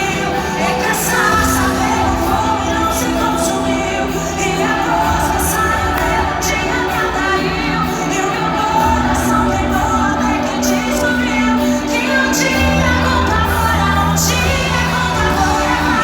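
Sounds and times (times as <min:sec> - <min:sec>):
live band worship song: 0:00.0 - 0:16.0
person singing: 0:00.0 - 0:16.0.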